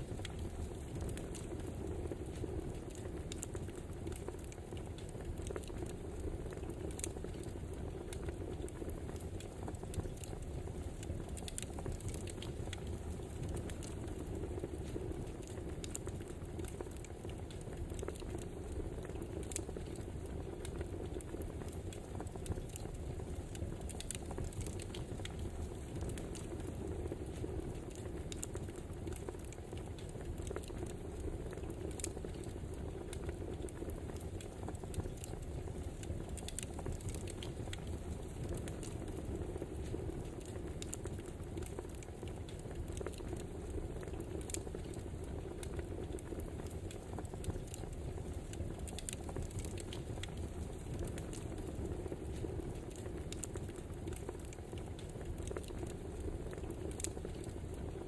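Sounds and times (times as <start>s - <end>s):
logs crackling and popping: 0.0s - 58.0s
wood fire burning: 0.0s - 58.0s.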